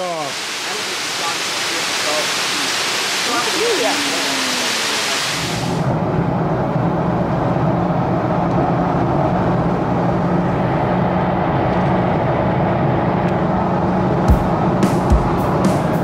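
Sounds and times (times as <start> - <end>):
road noise: 0.0 - 16.0
car engine running: 0.2 - 16.0.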